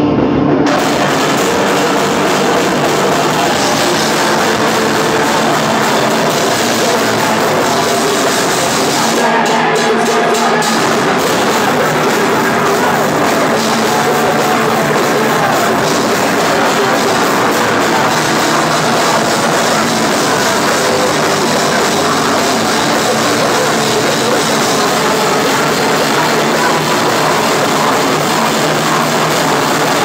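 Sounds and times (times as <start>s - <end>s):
distorted electric guitar: 0.0s - 30.0s
punk band playing live: 0.1s - 30.0s
drum kit with cymbals: 0.7s - 30.0s.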